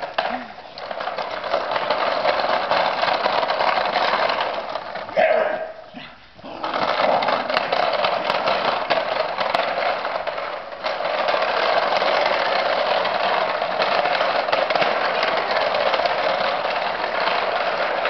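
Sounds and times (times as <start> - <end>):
trolley wheels rattling over concrete: 0.0 - 5.8, 6.4 - 18.0.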